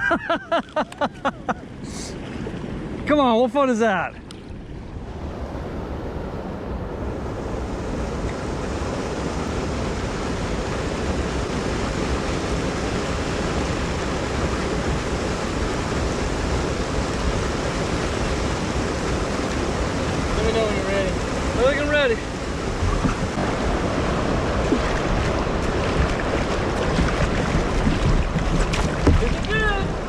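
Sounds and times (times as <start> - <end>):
river water rushing: 4.2 - 30.0.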